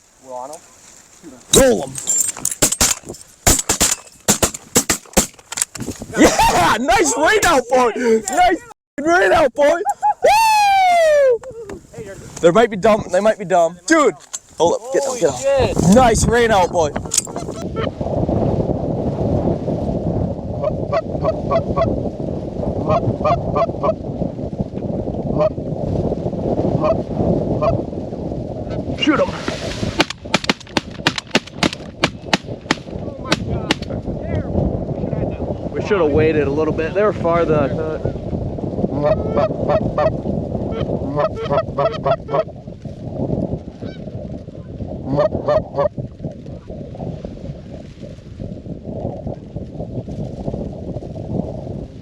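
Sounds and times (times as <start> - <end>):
wind noise on microphone: 1.2 - 52.0.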